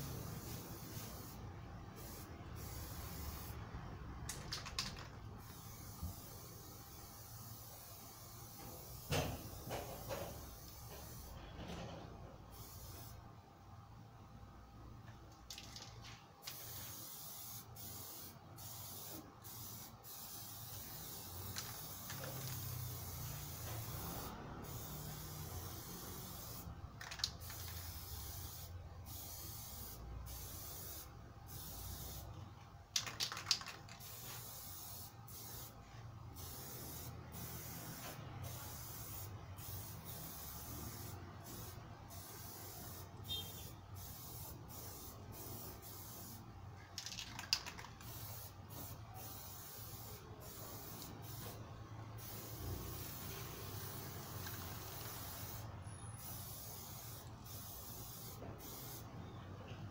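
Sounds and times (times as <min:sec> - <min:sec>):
spray can hissing: 0:00.0 - 0:03.7, 0:04.3 - 0:11.3, 0:12.5 - 0:13.2, 0:15.5 - 0:32.3, 0:32.9 - 0:51.6, 0:52.2 - 0:59.1.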